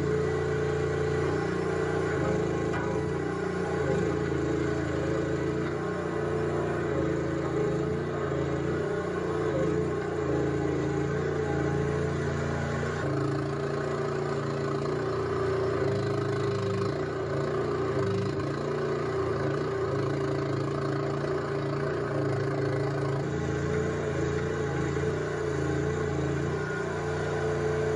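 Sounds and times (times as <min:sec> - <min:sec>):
skid steer engine running: 0:00.0 - 0:27.9.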